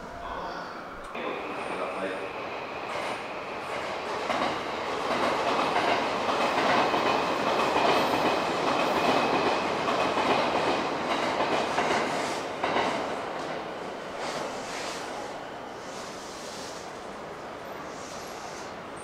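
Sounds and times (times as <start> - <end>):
electric train pulling in: 0.0 - 19.0.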